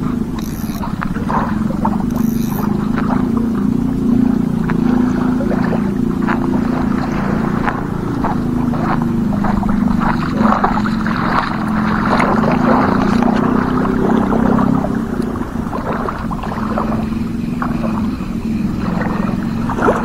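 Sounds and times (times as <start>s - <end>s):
crackling noise: 0.0s - 20.0s
small engine droning: 0.0s - 20.0s.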